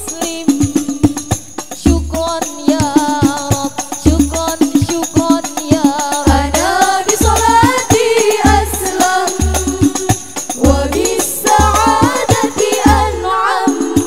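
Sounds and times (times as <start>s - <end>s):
women singing in unison: 0.0s - 14.0s.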